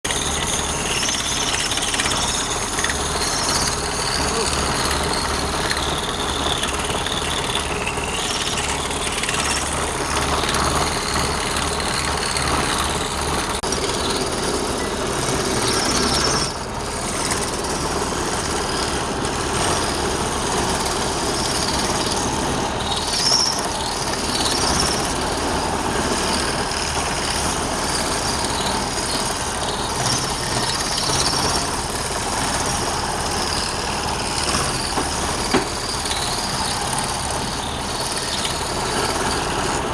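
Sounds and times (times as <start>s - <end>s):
wood lathe turning wood: 0.0s - 39.9s
high squeals: 0.1s - 39.9s.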